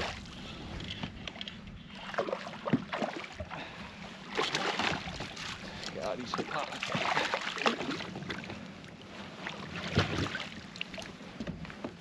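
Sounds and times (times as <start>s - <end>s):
water splashes and swishes: 0.0s - 12.0s.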